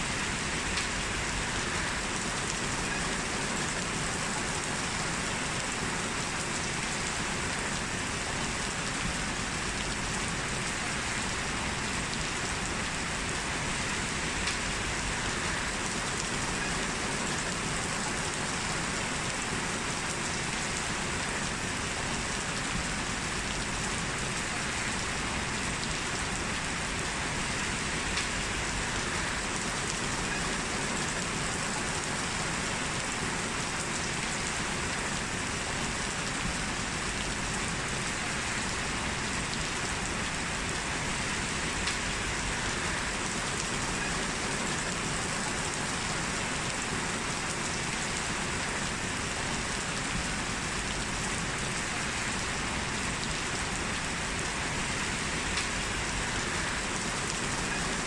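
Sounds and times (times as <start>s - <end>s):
heavy rain on a street: 0.0s - 58.0s.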